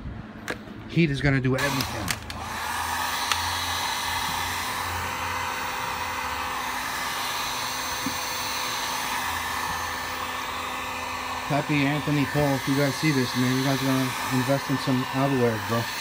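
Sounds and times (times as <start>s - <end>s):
heat gun blowing hot air: 1.6s - 16.0s.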